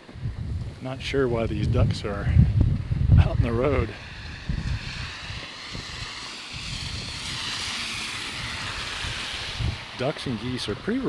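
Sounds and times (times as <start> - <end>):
tyres hissing on wet road: 0.0 - 11.0
wind rumble on microphone: 0.0 - 11.0.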